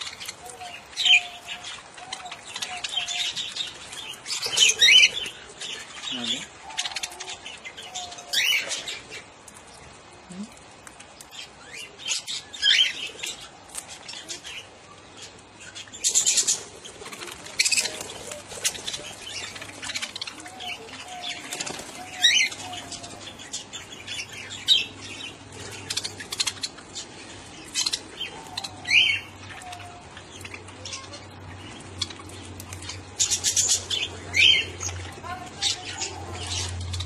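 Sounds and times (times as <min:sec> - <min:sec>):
birds chirping and chattering: 0:00.0 - 0:37.0.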